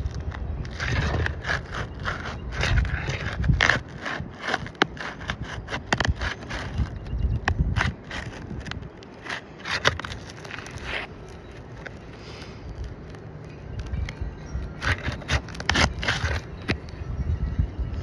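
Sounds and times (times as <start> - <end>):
roof shingles crackling and scraping: 0.0 - 18.0.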